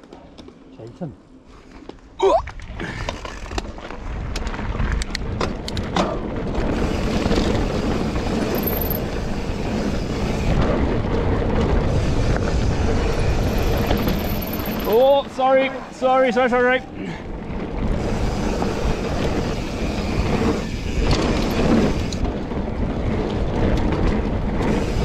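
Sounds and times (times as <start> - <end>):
wind rushing over microphone: 2.5 - 25.0
bike rattling over bumps: 2.7 - 25.0.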